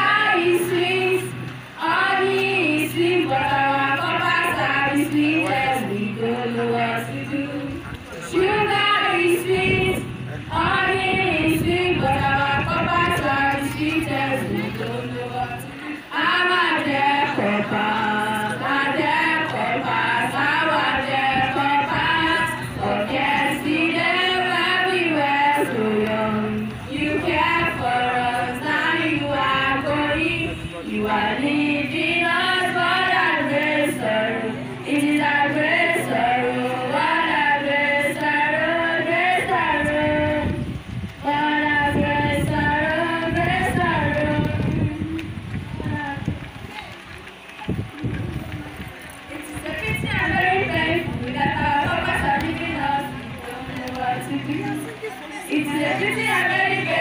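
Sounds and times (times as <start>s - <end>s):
group of voices singing: 0.0s - 46.3s, 49.4s - 57.0s.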